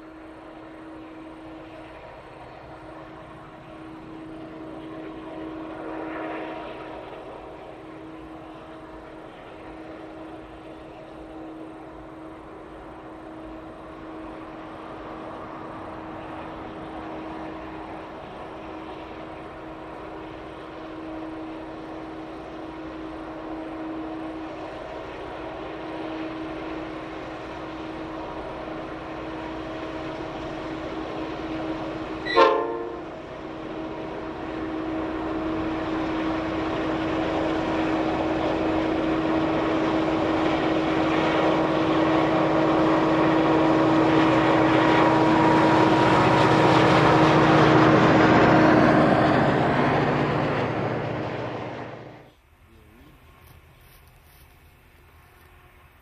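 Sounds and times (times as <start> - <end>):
diesel locomotive engines droning: 0.0 - 56.0
train wagons rumbling past: 0.0 - 56.0.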